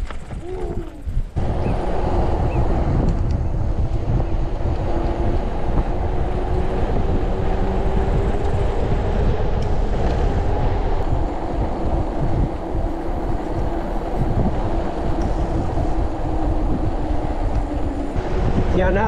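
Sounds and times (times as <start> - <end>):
bike tyres rolling on asphalt: 0.0 - 19.0
wind rushing over microphone: 0.0 - 19.0.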